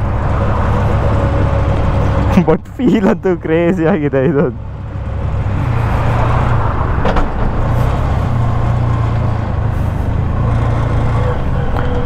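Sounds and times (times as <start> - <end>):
auto-rickshaw engine running: 0.0 - 12.0
road noise: 0.0 - 12.0.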